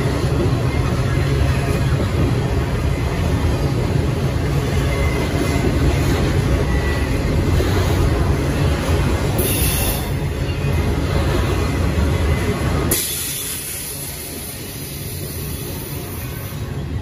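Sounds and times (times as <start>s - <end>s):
steel wheels clattering on rails: 0.0s - 17.0s.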